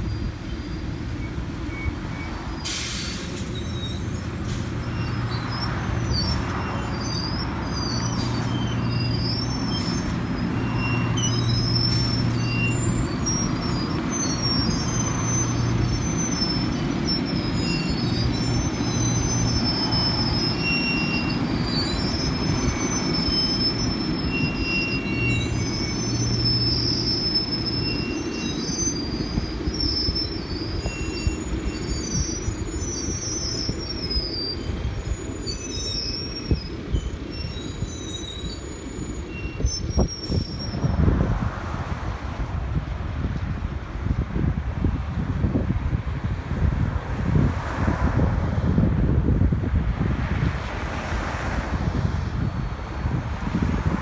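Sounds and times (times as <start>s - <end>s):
train wheels squealing: 0.0s - 41.4s, 52.1s - 54.0s
diesel hum: 0.0s - 47.5s
low rumble of train: 0.0s - 54.0s.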